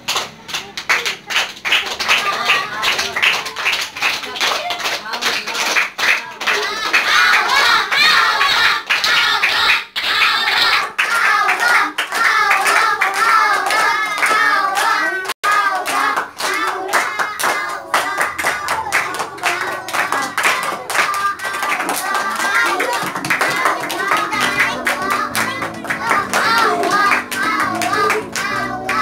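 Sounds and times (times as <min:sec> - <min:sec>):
hand claps: 0:00.0 - 0:29.0
children calling and singing: 0:00.4 - 0:05.0, 0:05.7 - 0:29.0.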